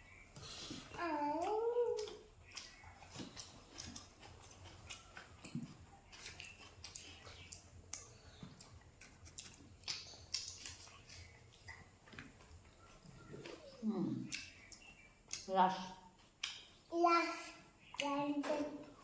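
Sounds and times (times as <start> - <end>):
crunching and chewing: 0.0 - 16.8.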